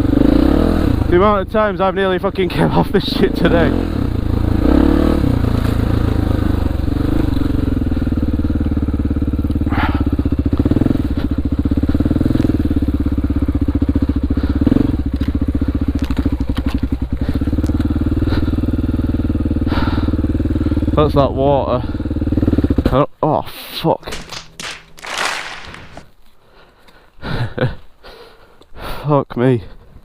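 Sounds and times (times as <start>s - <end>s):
dirt bike engine running: 0.0s - 22.9s, 24.1s - 26.1s.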